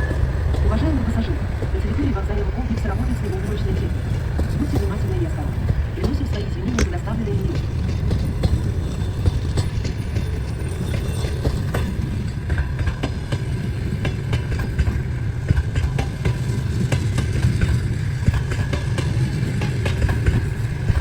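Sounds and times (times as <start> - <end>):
train rumbling past: 0.0 - 21.0
wheels clattering over rail joints: 0.0 - 21.0.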